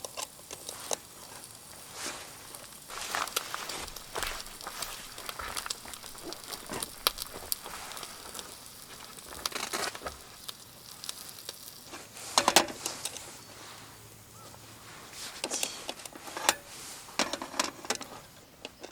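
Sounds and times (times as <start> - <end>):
campfire wood crackling: 0.0 - 18.9.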